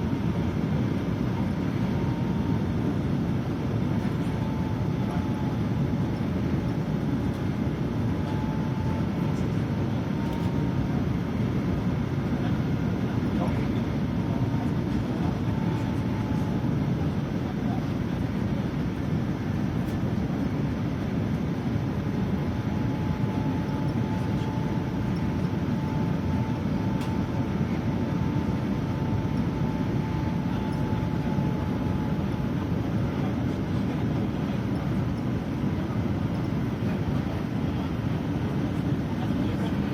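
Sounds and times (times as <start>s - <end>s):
jet engines rumbling in flight: 0.0s - 39.9s
faint high whine: 0.1s - 39.9s.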